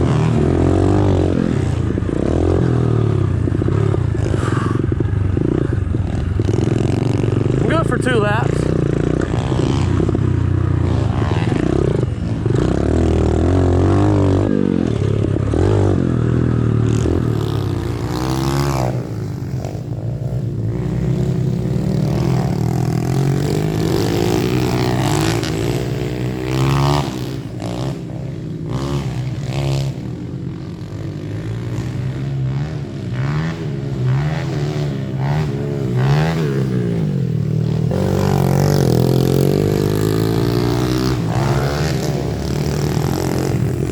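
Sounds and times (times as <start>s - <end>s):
pit bike engines revving: 0.0s - 43.9s.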